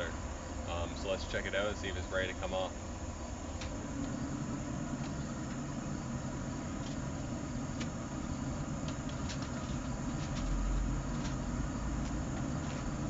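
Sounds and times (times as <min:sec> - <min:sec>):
grill fan hum: 0:00.0 - 0:13.0.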